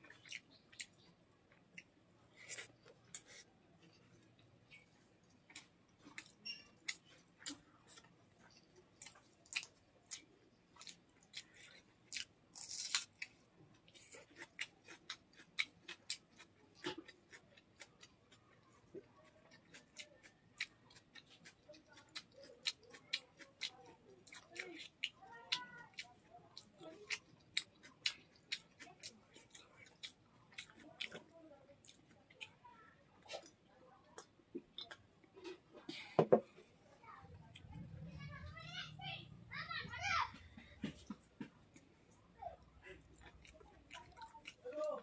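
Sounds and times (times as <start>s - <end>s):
person chewing with mouth smacks: 1.6s - 32.6s, 33.2s - 35.9s, 40.8s - 44.7s.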